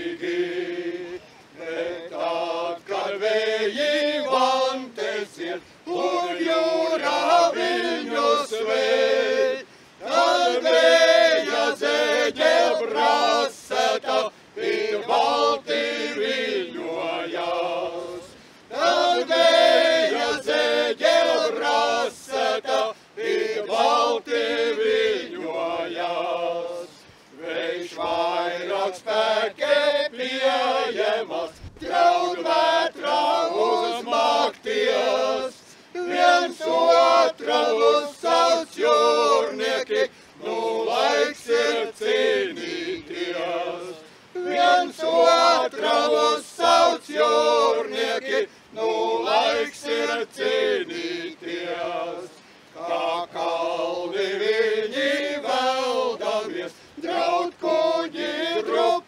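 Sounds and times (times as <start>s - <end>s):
men singing a cappella: 0.0s - 59.0s.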